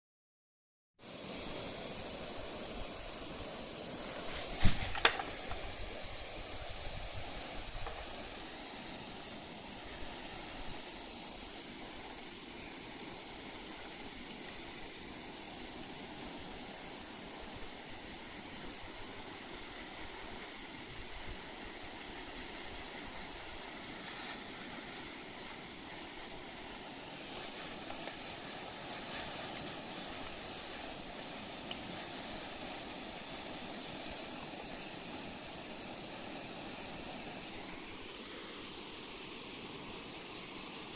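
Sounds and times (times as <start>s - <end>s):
shower water spraying: 1.0s - 40.9s.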